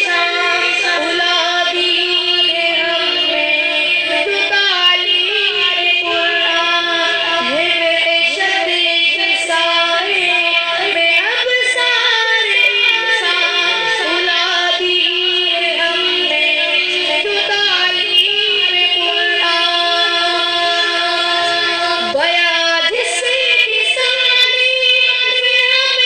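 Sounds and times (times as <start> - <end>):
person singing: 0.0 - 26.0.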